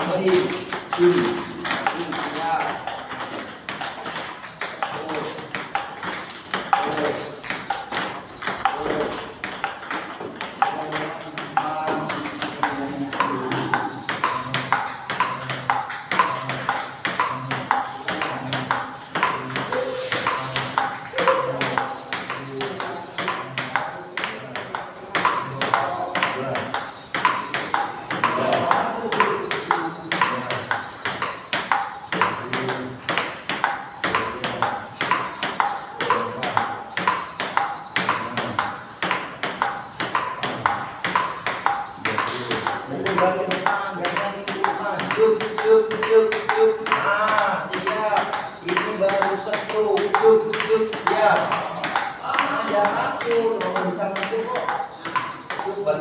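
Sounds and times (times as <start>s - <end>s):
table tennis balls clicking: 0.0s - 56.0s.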